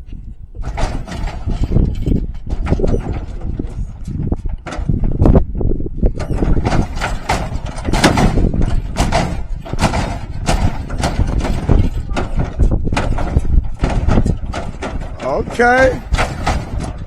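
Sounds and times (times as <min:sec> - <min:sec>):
low rumble: 0:00.0 - 0:17.0
car body banging down: 0:00.6 - 0:17.0.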